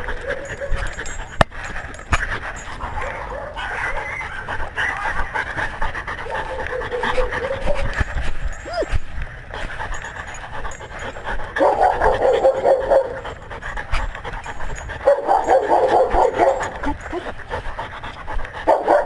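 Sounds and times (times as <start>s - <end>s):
dog panting rapidly: 0.0s - 19.0s.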